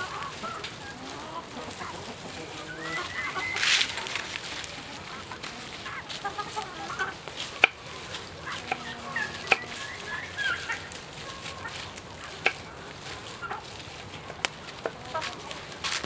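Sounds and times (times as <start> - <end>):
chickens clucking: 0.0 - 16.0
rustling hiss: 0.0 - 16.0.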